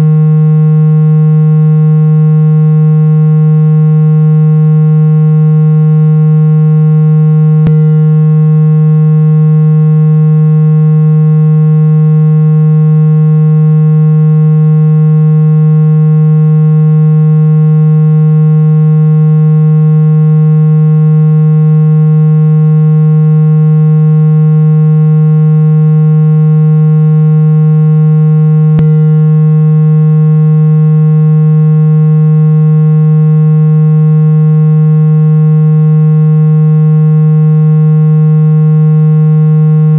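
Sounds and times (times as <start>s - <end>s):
synthesized low hum tone: 0.0s - 39.9s.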